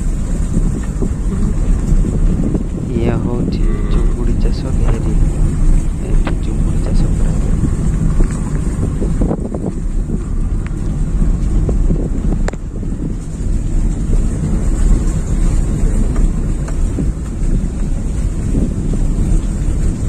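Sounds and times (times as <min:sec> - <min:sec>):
vehicle rumble: 0:00.0 - 0:20.0
wind buffeting microphone: 0:00.0 - 0:20.0.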